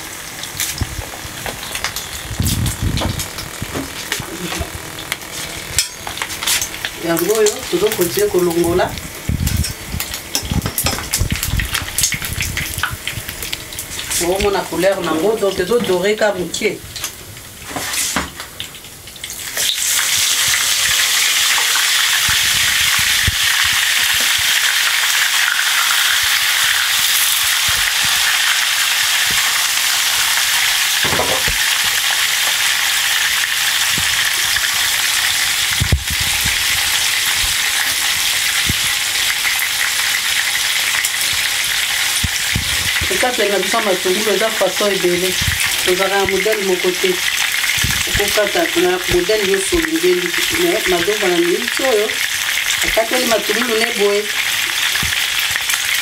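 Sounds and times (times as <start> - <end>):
food sizzling in frying pan: 0.0 - 56.0.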